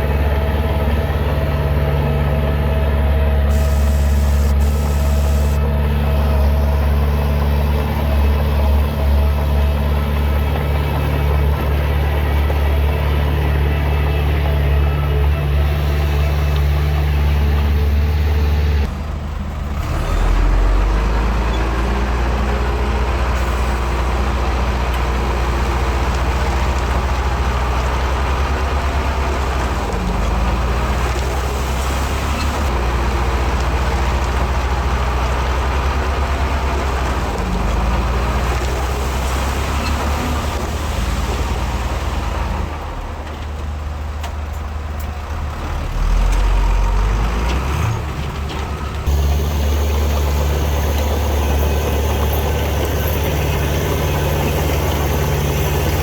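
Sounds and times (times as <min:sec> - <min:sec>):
diesel earthmoving machinery running: 0:00.0 - 0:56.0.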